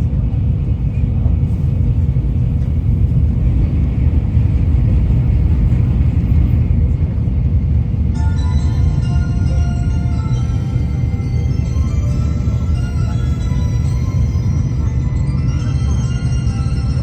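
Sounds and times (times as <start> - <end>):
train rumble inside car: 0.0 - 17.0.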